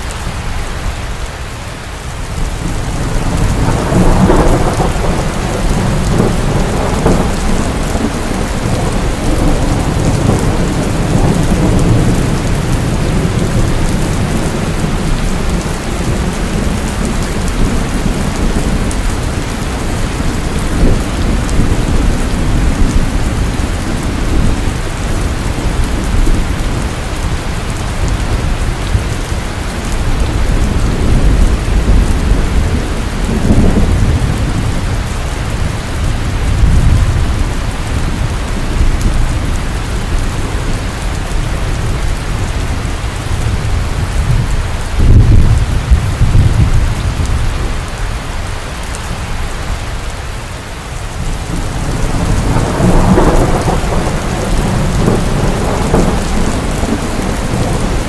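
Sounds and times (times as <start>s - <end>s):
steady rain falling: 0.0s - 58.0s
low rolling thunder: 2.3s - 50.0s, 51.0s - 58.0s.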